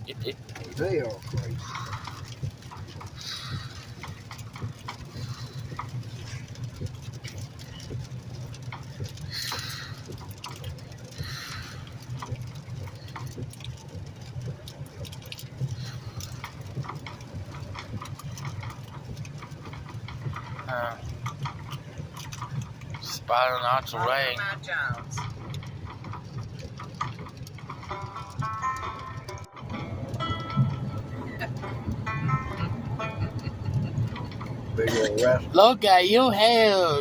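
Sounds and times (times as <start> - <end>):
car engine and tyre rumble: 0.0 - 37.0
light ticks: 0.1 - 35.6.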